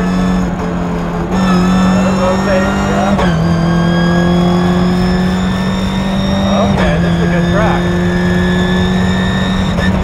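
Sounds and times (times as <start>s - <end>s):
race car engine accelerating: 0.0s - 10.0s.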